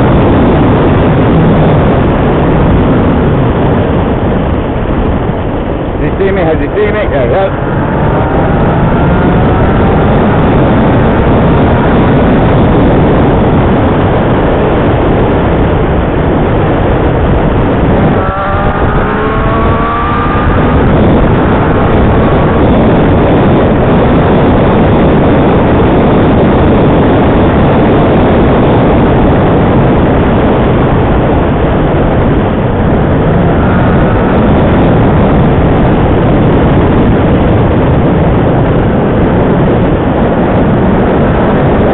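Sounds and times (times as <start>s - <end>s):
motorcycle engine: 0.0s - 41.9s
wind and road noise: 0.0s - 41.9s.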